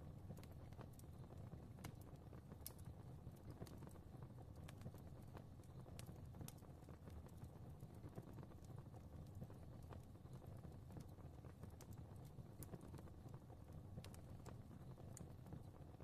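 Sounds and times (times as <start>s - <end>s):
fire crackling: 0.0s - 16.0s
low rumble of flames: 0.0s - 16.0s.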